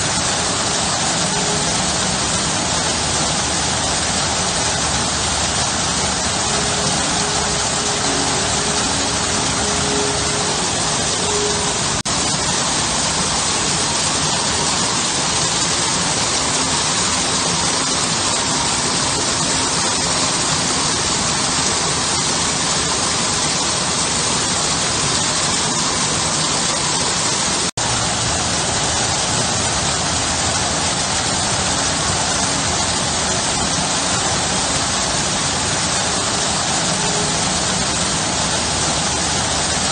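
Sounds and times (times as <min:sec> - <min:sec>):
water pouring over rock: 0:00.0 - 0:39.9.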